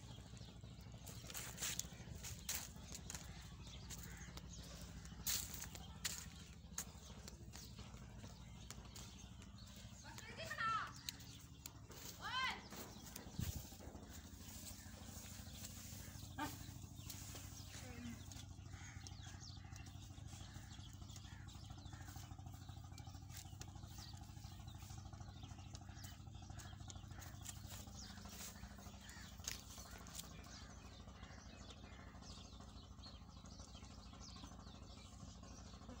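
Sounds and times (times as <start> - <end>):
small birds chirping: 0.0 - 36.0
steady low hum: 0.0 - 36.0.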